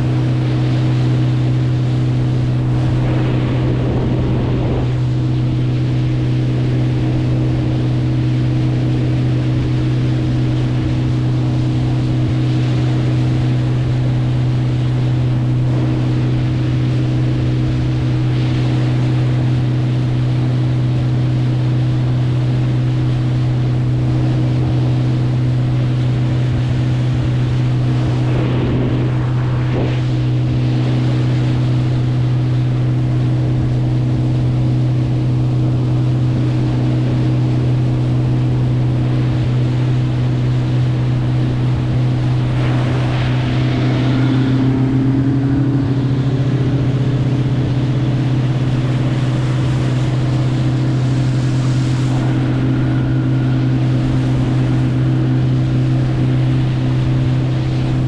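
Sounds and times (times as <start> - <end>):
boat motor droning: 0.0 - 58.0
water rushing: 0.0 - 58.0.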